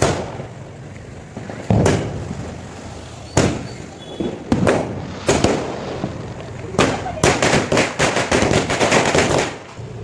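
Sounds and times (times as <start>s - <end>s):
firecrackers bursting: 0.0s - 10.0s.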